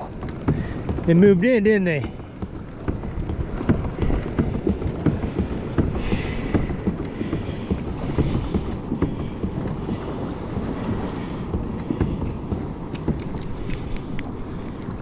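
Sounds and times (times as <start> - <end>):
water slapping a kayak hull: 0.0 - 15.0
wind rumbling on microphone: 0.0 - 15.0.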